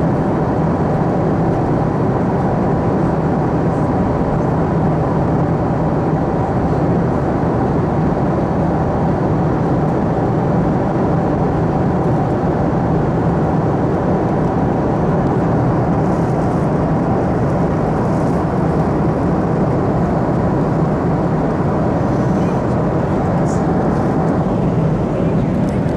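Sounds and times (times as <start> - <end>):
air rushing along fuselage: 0.0 - 25.9
low jet engine hum: 0.0 - 25.9.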